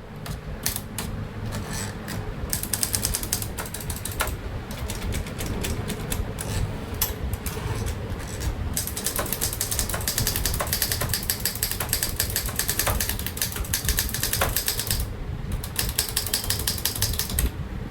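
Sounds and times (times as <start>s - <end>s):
typewriter keys clacking: 0.2s - 17.5s.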